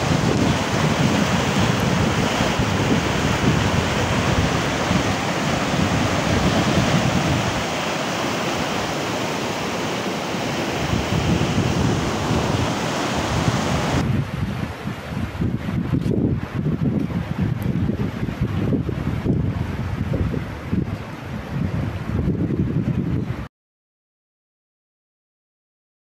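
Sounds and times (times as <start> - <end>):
floodwater rushing: 0.0 - 22.1
wind buffeting microphone: 0.0 - 23.5.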